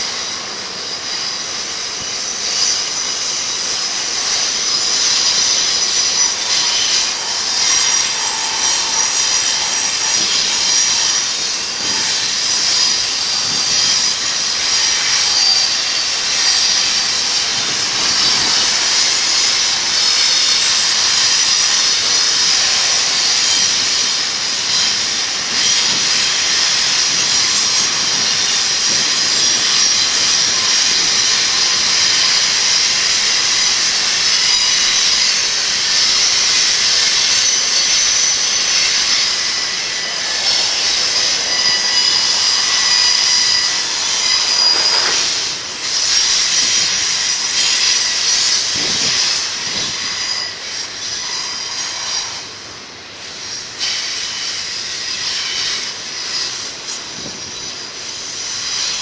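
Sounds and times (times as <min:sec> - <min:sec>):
high-pitched wheel hiss: 0:00.0 - 0:59.0
train cars rolling: 0:00.0 - 0:59.0.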